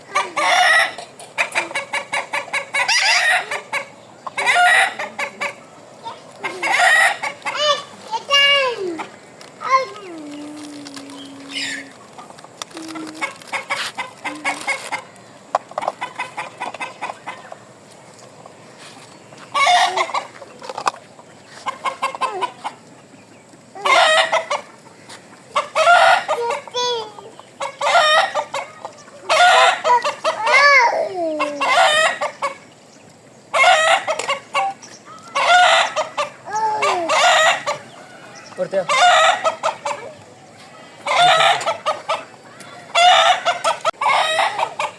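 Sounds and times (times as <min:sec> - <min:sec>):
soft rapid bird chatter: 0:00.2 - 0:44.9
loud wavering bird calls: 0:01.6 - 0:17.8, 0:19.2 - 0:44.9.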